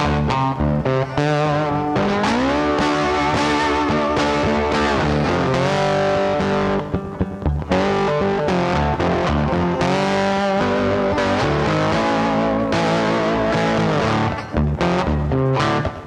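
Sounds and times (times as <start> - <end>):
guitar-led background music: 0.0 - 16.0.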